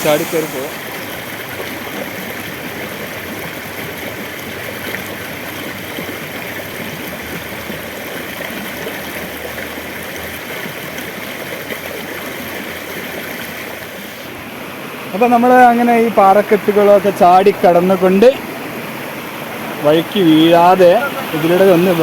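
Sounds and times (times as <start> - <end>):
stream running over boulders: 0.0 - 22.0.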